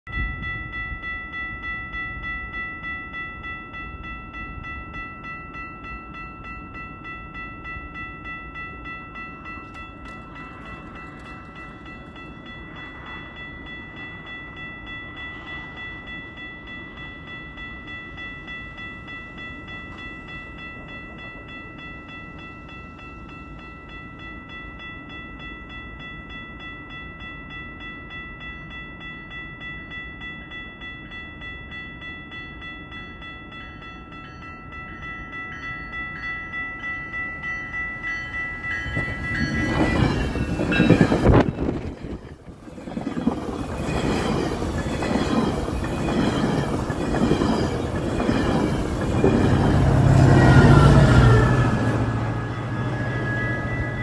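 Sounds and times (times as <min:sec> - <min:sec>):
level crossing bell ringing: 0:00.1 - 0:54.0.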